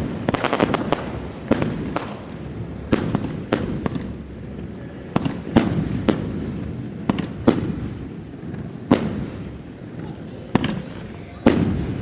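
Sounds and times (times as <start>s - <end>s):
fireworks bangs: 0.0s - 12.0s
fireworks rumble and crackle: 0.0s - 12.0s.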